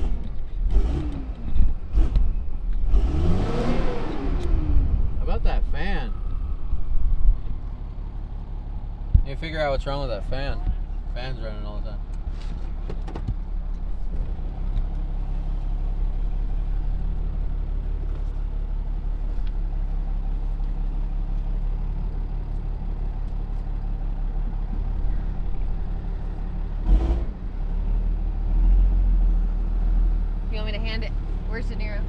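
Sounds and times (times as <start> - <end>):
truck engine humming: 0.0 - 32.0.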